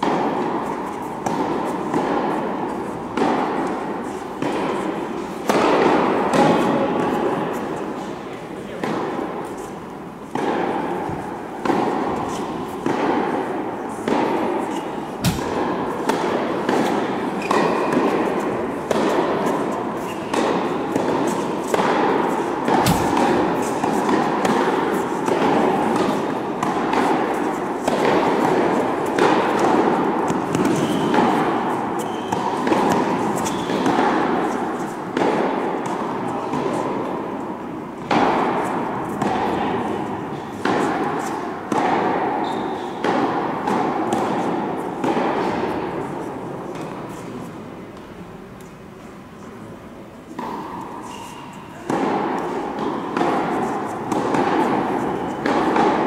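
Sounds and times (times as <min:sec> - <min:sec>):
tennis balls struck and bouncing: 0:00.0 - 0:48.9, 0:50.1 - 0:56.0.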